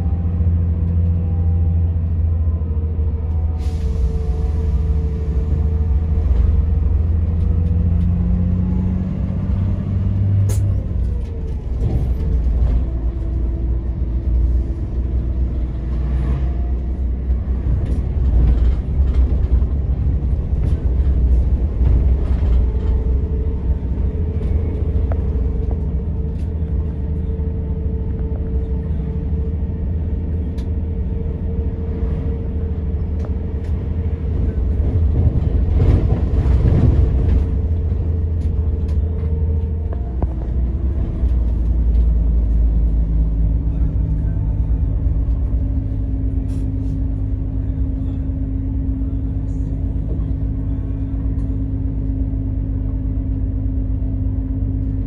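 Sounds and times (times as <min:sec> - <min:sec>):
bus diesel engine rumbling: 0:00.0 - 0:55.0.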